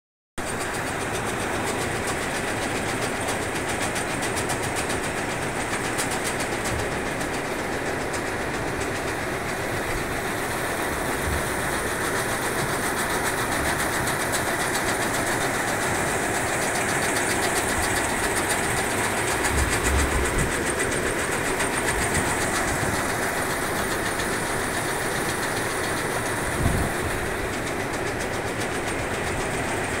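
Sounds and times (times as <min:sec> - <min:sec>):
belt conveyor running: 0:00.4 - 0:30.0
fine rapid ticking: 0:00.5 - 0:30.0.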